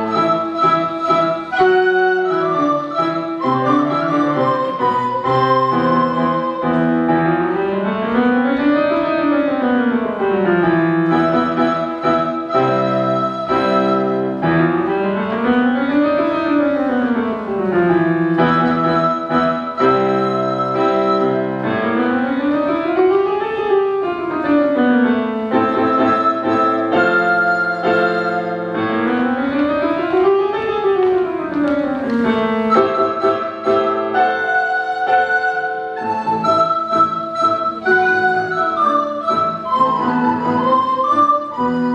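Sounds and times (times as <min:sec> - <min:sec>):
recorder ensemble playing: 0:00.0 - 0:16.8, 0:18.2 - 0:23.0, 0:25.4 - 0:41.9.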